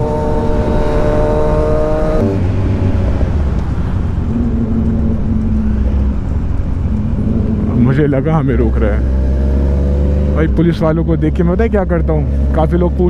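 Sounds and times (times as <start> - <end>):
faint low engine hum: 0.0 - 13.0
motorcycle engine cruising: 0.0 - 13.0
wind and road rumble: 0.0 - 13.0.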